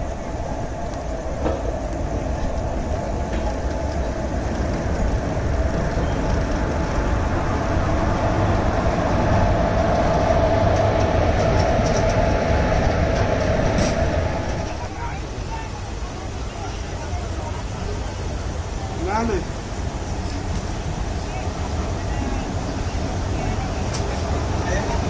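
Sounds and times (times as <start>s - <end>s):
electric locomotive passing: 0.0s - 25.0s.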